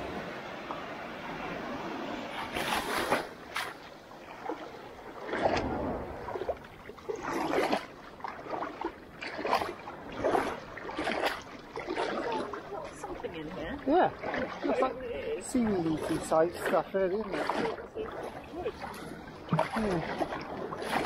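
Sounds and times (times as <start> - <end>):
sea water splashing: 0.0 - 21.0.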